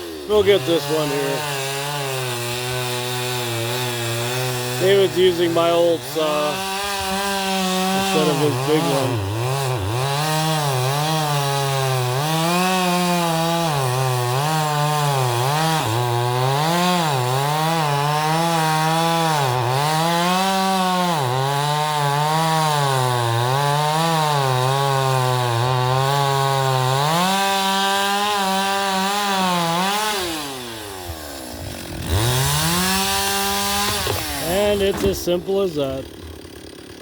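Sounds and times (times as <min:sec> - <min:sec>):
chainsaw cutting through tree: 0:00.0 - 0:37.0.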